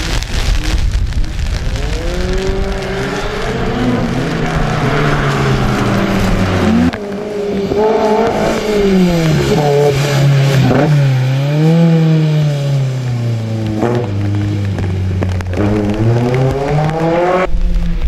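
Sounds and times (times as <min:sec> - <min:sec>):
rain and wet tyres hissing: 0:00.0 - 0:18.0
race car engine revving: 0:01.5 - 0:17.7
race car engines: 0:01.5 - 0:18.0.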